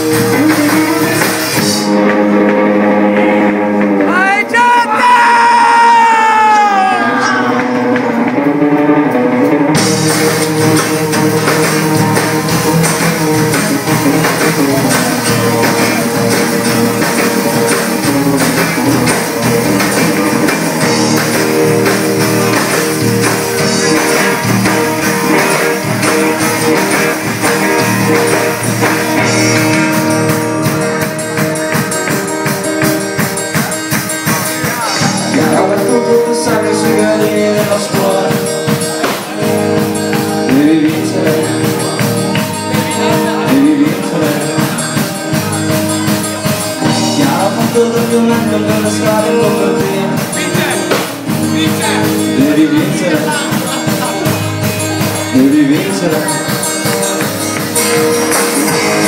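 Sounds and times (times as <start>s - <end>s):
drum kit beat: 0.0s - 59.0s
electric guitars: 0.0s - 59.0s
person singing: 0.0s - 59.0s
strummed acoustic guitar: 7.4s - 59.0s.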